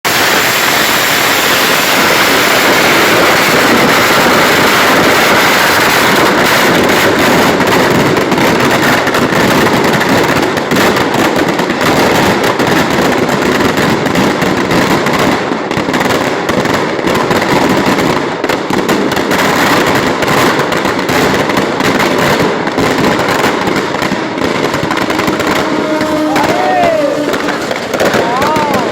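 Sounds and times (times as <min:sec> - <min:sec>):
firecrackers crackling: 0:00.0 - 0:28.9.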